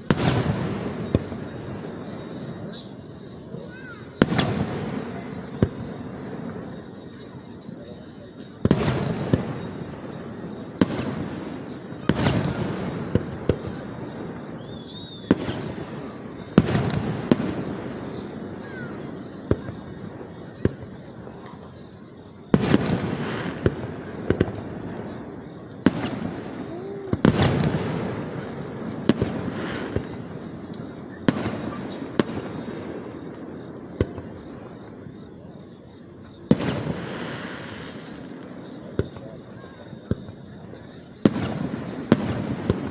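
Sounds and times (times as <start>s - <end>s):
fireworks pops and crackles: 0.0s - 42.9s
fireworks shells bursting: 0.0s - 42.9s.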